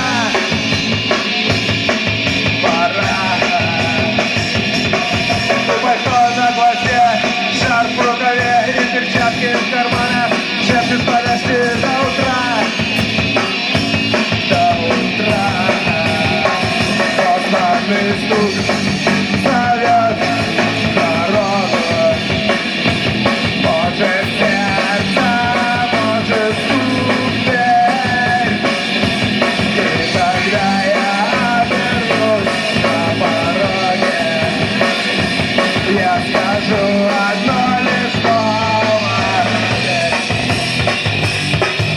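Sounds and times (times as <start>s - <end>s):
live punk rock band: 0.0s - 41.9s.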